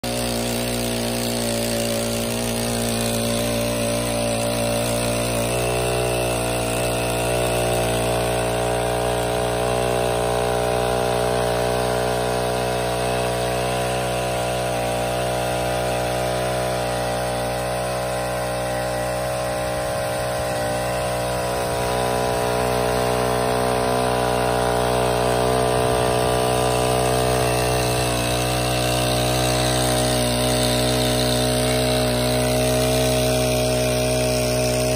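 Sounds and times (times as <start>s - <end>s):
water pump engine running: 0.0s - 34.9s.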